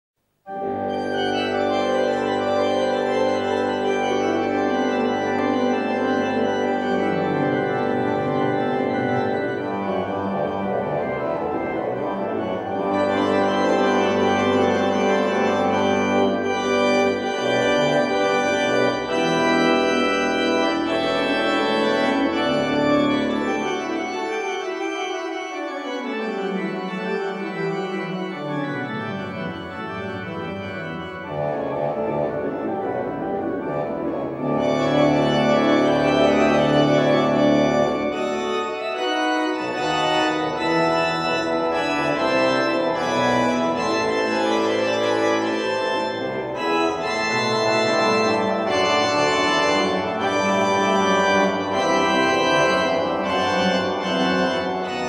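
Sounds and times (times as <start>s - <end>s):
pipe organ chords: 0.5s - 55.0s.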